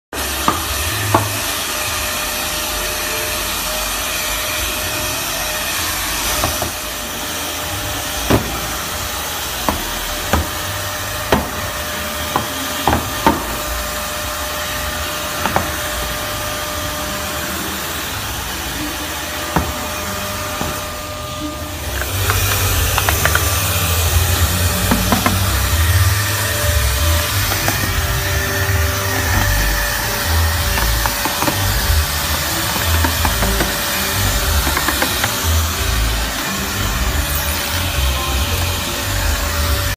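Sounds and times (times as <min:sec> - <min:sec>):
hair dryer blowing: 0:00.2 - 0:39.9.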